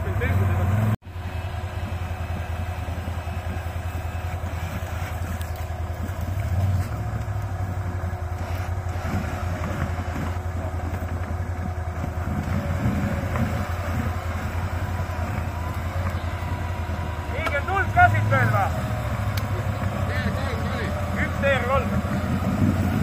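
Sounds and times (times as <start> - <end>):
rough mechanical noise: 0.0 - 23.0
vehicle engine running at low revs: 0.0 - 23.0.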